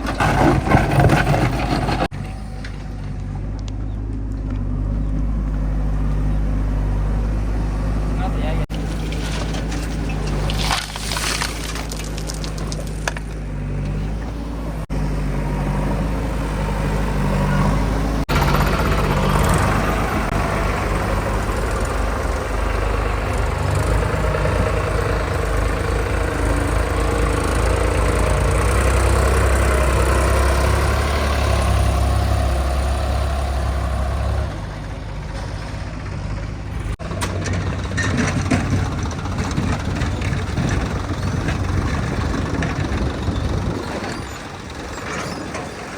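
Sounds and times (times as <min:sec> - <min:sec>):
diesel tractor engine running: 0:00.0 - 0:45.9.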